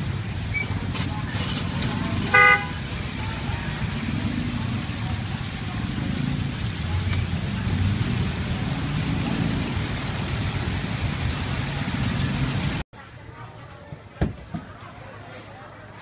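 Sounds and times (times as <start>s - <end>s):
chicken deep-frying in oil: 0.0s - 12.8s.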